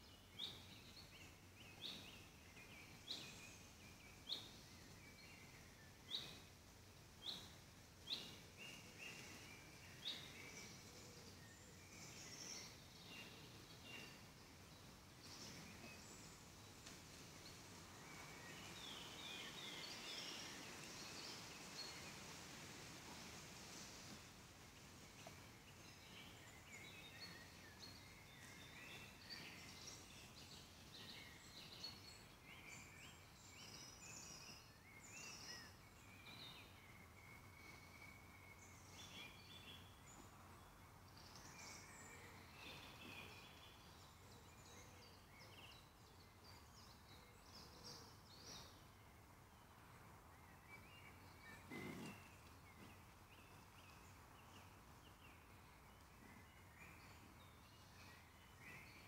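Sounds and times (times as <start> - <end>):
low background hiss: 0.0 - 59.0.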